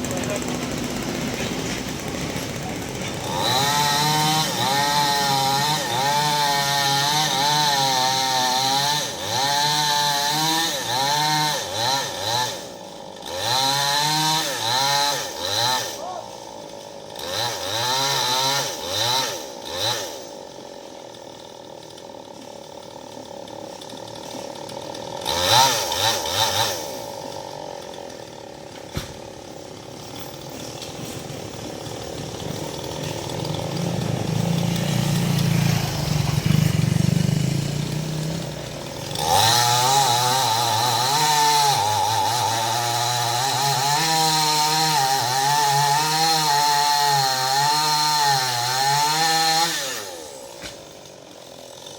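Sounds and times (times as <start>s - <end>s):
chainsaw revving and cutting wood: 0.0s - 51.9s.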